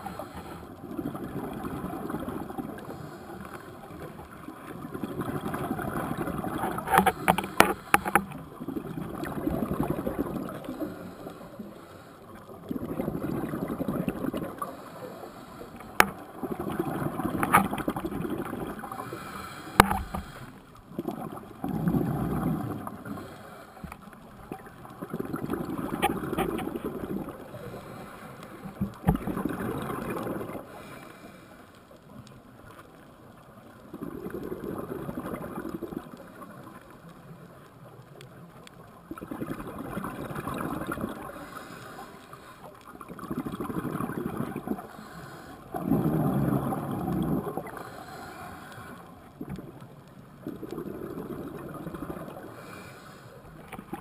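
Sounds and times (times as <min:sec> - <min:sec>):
underwater exhaled bubbles: 0:00.0 - 0:54.0.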